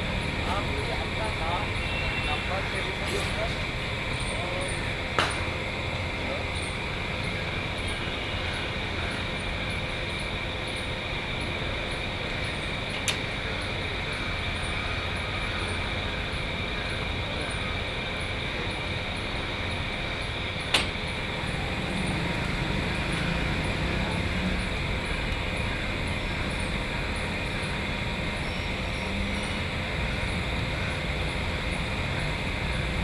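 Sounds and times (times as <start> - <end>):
road traffic hum: 0.0 - 33.0.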